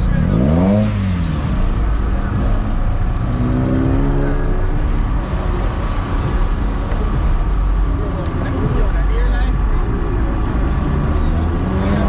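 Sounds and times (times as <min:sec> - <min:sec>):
car engine rumbling and revving: 0:00.0 - 0:12.0.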